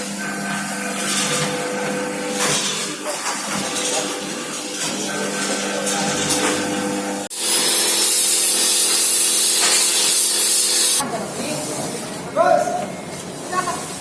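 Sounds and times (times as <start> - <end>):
sorting machine hum: 0.0 - 14.0.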